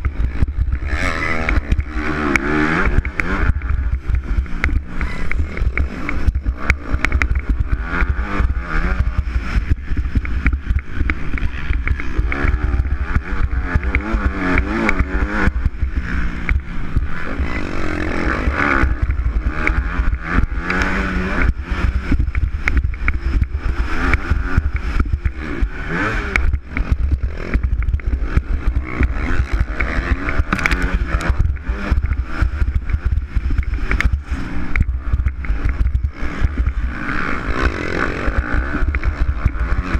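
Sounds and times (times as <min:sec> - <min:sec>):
motocross bike engine revving: 0:00.0 - 0:39.9
wind rumble on microphone: 0:00.0 - 0:39.9.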